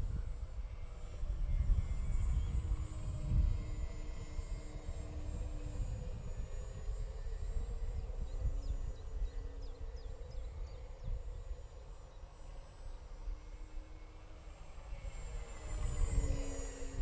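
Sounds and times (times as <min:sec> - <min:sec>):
wind rumble on microphone: 0:00.0 - 0:14.2, 0:14.8 - 0:17.0
model plane engine sound drone: 0:00.0 - 0:17.0.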